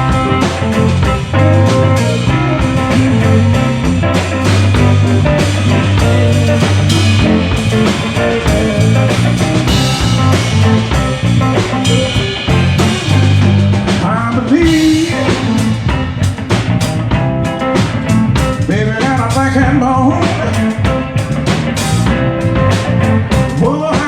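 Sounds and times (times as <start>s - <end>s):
bass line: 0.0s - 24.0s
drum kit beat: 0.0s - 24.0s
electric guitar lead: 0.0s - 24.0s.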